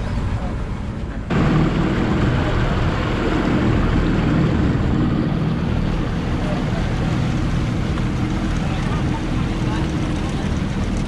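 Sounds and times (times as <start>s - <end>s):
outboard motor running: 0.0s - 11.0s
water rushing along hull: 0.0s - 11.0s
wind on microphone: 0.0s - 11.0s.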